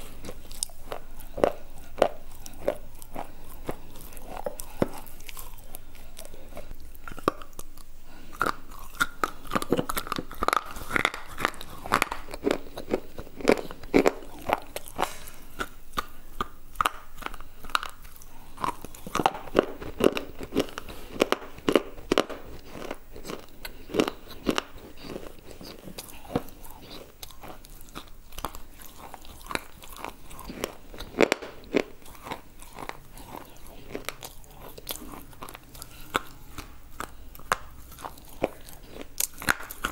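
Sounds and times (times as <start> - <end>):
crunchy bar being chewed: 0.0 - 39.9.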